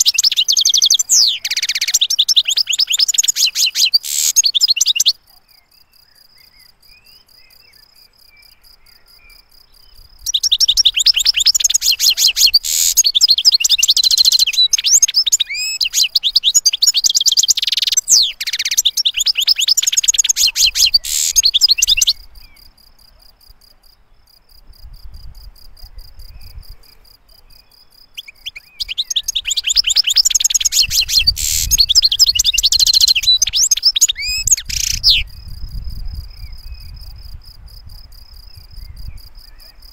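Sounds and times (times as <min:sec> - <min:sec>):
finch twittering song: 0:00.0 - 0:22.7, 0:25.9 - 0:37.4.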